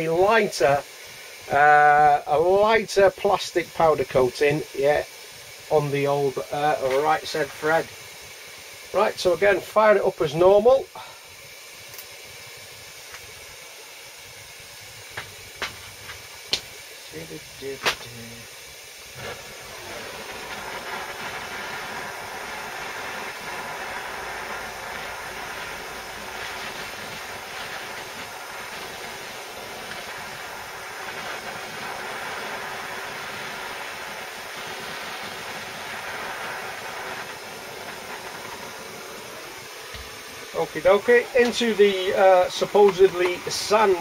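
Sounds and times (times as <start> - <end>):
blowtorch hissing: 0.0 - 44.0.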